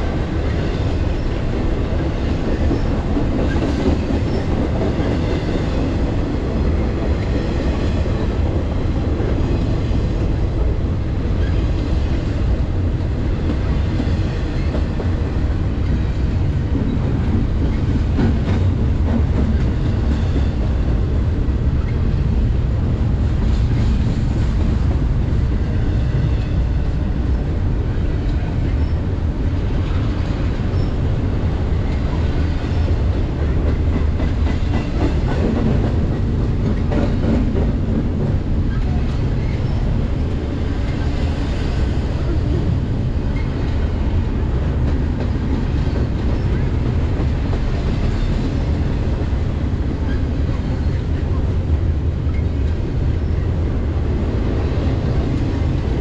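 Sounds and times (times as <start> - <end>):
freight train wheels rumbling on rail: 0.0 - 56.0
train clatter: 0.0 - 56.0.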